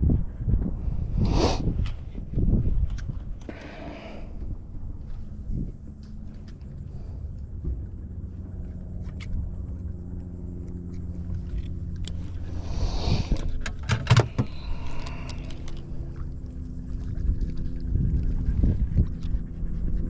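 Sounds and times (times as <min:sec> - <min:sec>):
engine humming: 0:03.2 - 0:20.0.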